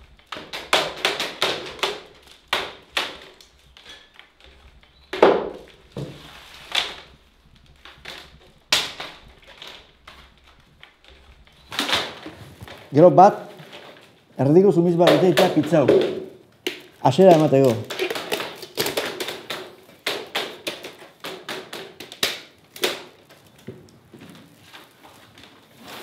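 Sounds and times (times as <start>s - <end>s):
wooden splints clattering: 0.0s - 26.0s.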